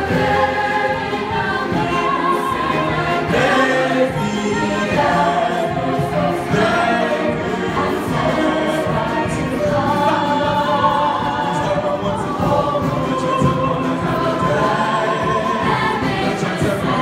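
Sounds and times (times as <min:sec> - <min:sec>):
ensemble singing in harmony: 0:00.0 - 0:17.0
musical accompaniment: 0:00.0 - 0:17.0.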